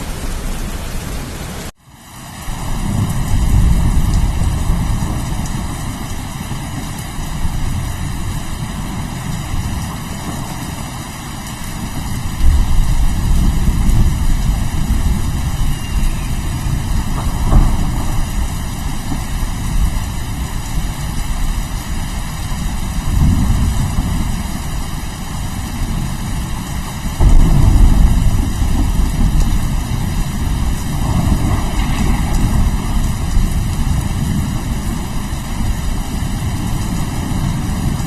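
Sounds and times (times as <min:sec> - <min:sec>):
rain hissing: 0:00.0 - 0:38.0
thunder rumbling: 0:02.4 - 0:38.0.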